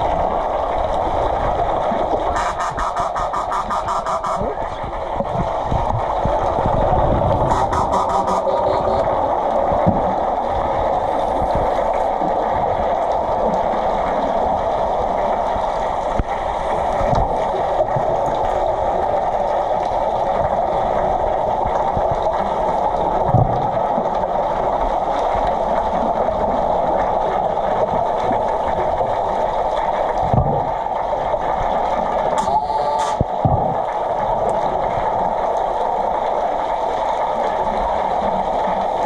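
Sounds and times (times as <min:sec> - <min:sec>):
bubbling underwater: 0:00.0 - 0:39.0
muffled underwater rushing: 0:00.0 - 0:39.0.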